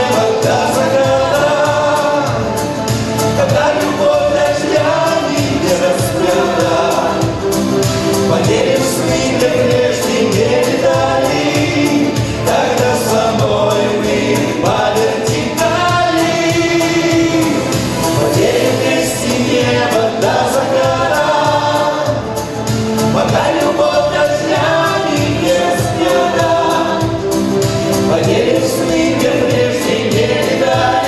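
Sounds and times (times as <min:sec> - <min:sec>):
man and woman singing duet: 0:00.0 - 0:31.0
pop backing track with beat: 0:00.0 - 0:31.0.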